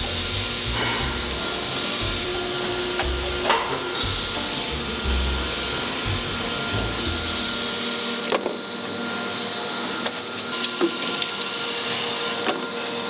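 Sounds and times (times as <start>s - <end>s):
machine humming: 0.0s - 10.7s.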